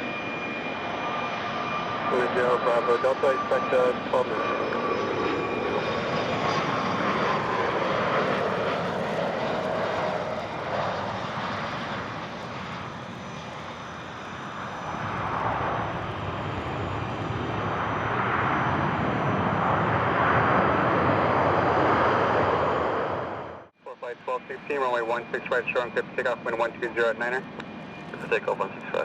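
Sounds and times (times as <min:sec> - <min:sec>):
jet engines whining: 0:00.0 - 0:29.0.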